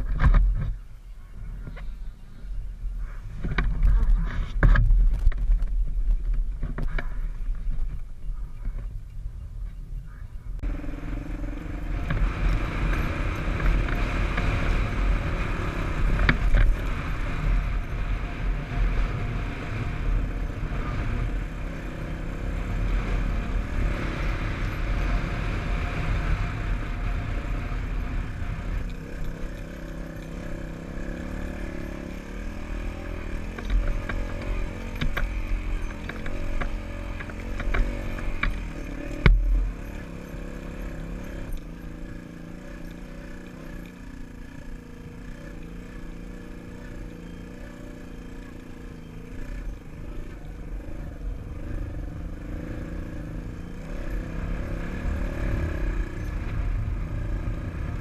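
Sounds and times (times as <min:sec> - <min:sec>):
dirt bike engine revving: 0:10.6 - 0:58.0.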